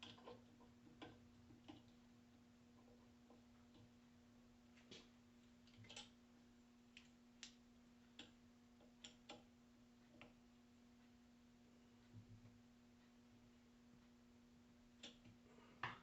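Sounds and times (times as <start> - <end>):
faint clicks and ticks: 0.0 - 16.0.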